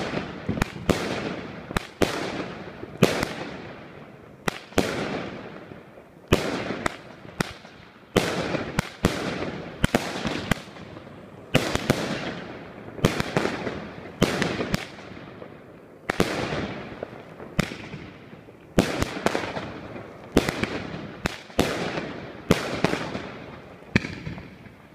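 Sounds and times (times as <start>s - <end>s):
firework bangs with echo: 0.0s - 24.8s.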